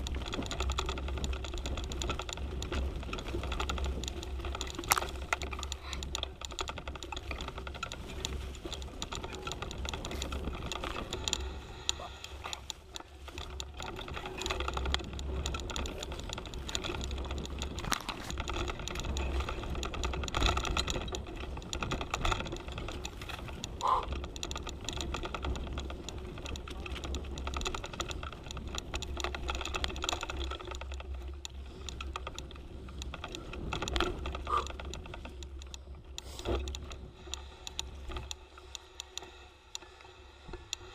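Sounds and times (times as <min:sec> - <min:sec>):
bike clattering and rattling: 0:00.0 - 0:40.9.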